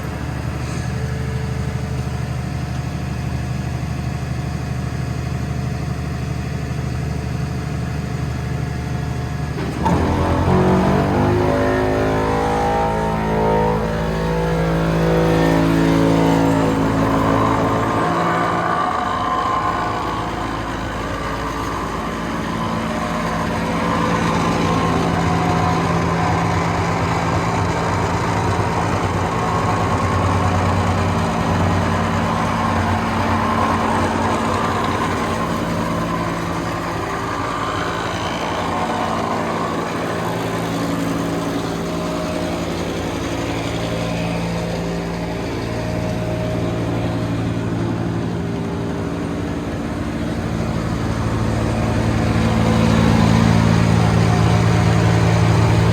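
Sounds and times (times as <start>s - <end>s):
asphalt paver diesel engine: 0.0s - 55.9s.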